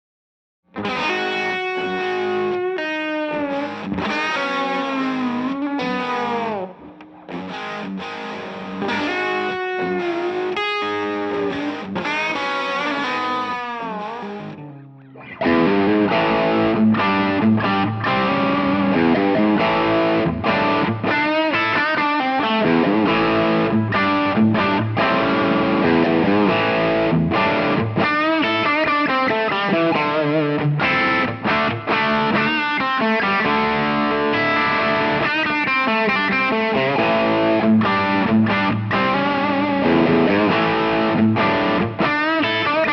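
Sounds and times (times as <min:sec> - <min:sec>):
distorted electric guitar: 0:00.7 - 0:42.9.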